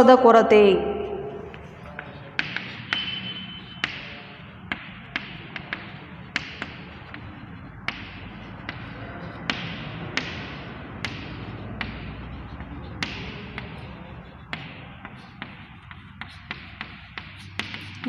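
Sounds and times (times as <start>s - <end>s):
chalk writing on chalkboard: 1.2s - 18.0s.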